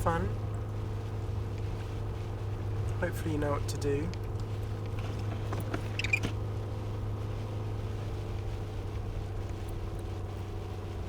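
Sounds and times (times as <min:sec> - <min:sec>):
car engine running: 0:00.0 - 0:11.0
road noise: 0:00.0 - 0:11.0.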